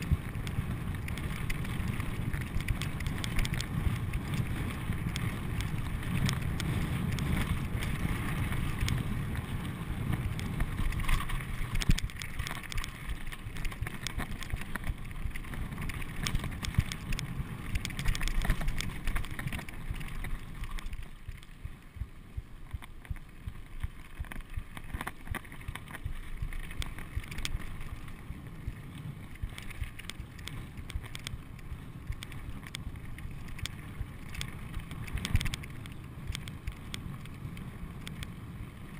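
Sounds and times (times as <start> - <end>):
bike rattling over rocks: 0.0 - 38.9
tyres rumbling on loose gravel: 0.0 - 38.9
wind buffeting microphone: 0.0 - 38.9.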